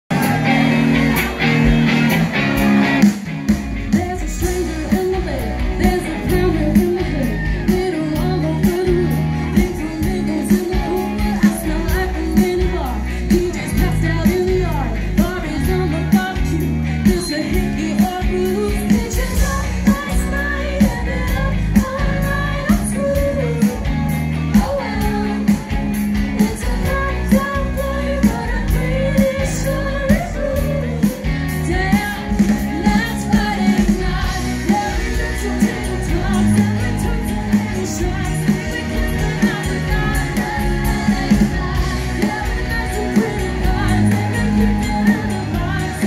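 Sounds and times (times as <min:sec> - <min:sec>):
drums keeping a steady beat: 0:00.1 - 0:46.0
electric guitars: 0:00.1 - 0:46.0
live pop-rock band playing: 0:00.1 - 0:46.0
person singing: 0:03.9 - 0:46.0.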